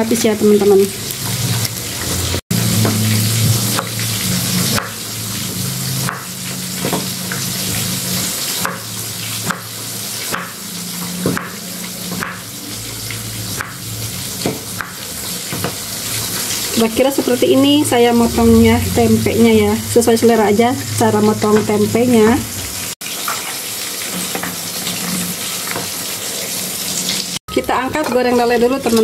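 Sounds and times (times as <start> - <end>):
fish frying in oil: 0.0 - 29.0.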